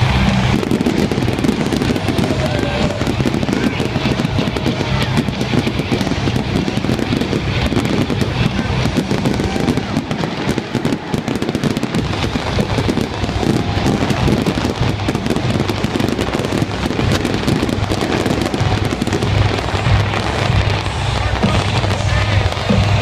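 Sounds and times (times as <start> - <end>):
fireworks crackling: 0.0 - 23.0
music with low bass: 0.0 - 23.0.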